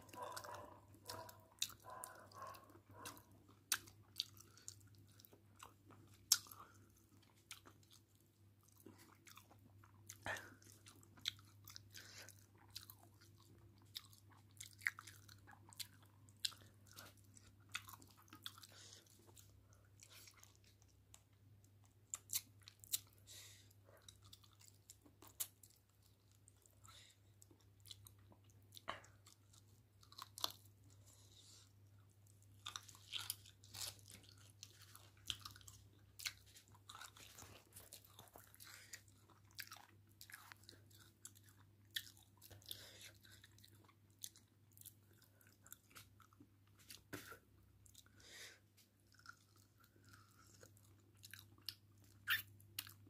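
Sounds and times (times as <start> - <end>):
wet chewing smacks and clicks: 0.0 - 48.1, 48.8 - 53.0.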